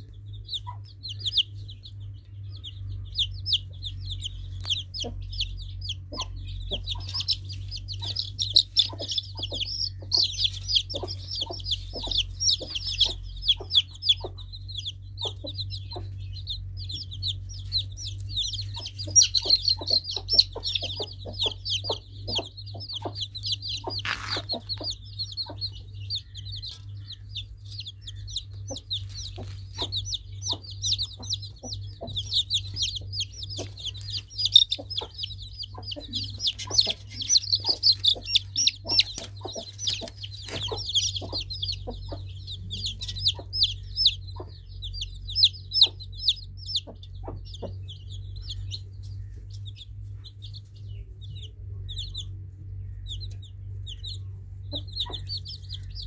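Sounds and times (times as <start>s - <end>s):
chicks peeping: 0.0s - 56.0s
low hum: 0.0s - 56.0s.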